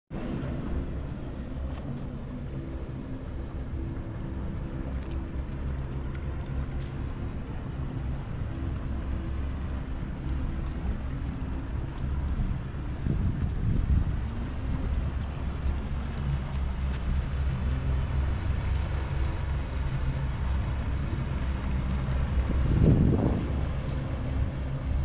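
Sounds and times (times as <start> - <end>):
motorboat engine running: 0.2 - 25.0.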